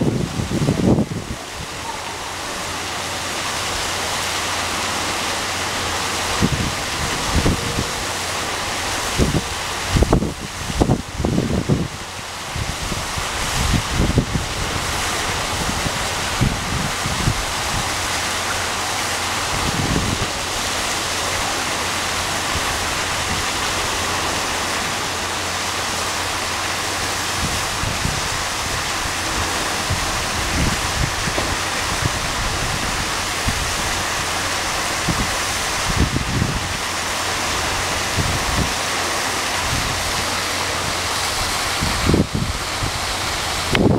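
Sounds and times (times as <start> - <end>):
waterfall pouring into pool: 0.0 - 43.9.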